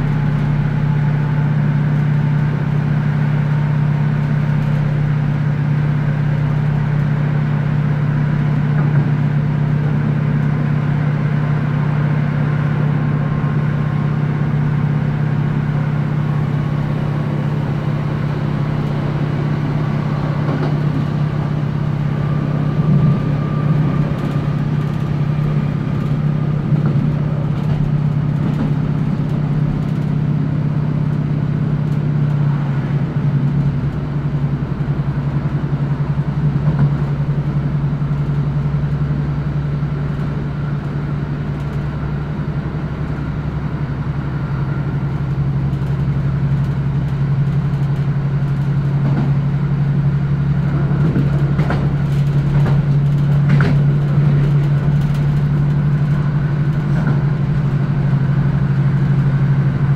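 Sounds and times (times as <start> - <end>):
deep rumble: 0.0 - 59.9
diesel engine drone: 0.0 - 59.9
train running noise: 0.0 - 59.9.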